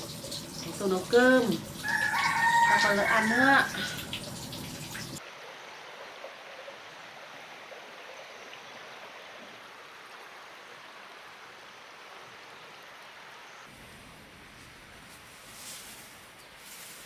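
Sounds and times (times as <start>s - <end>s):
flowing stream water: 0.0s - 13.7s.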